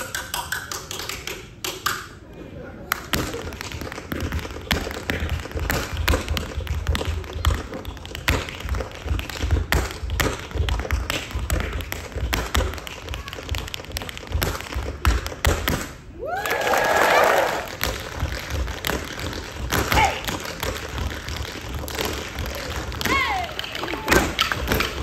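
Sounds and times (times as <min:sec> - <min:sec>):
tap shoes clicking on stage floor: 0:02.9 - 0:25.0.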